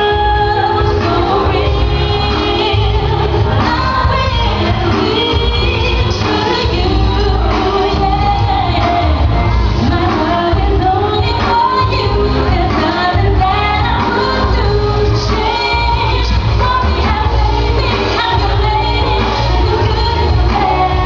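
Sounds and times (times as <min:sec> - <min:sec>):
amplified backing music with bass: 0:00.0 - 0:21.0
woman singing into microphone: 0:00.0 - 0:21.0.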